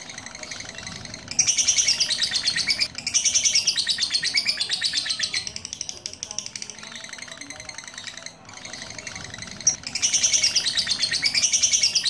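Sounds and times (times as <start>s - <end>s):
lovebird chirping trill: 0.0s - 12.0s.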